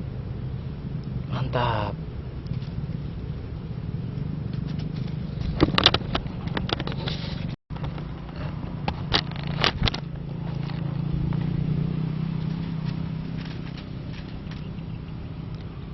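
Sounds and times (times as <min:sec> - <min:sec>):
engine humming: 0:00.0 - 0:15.9.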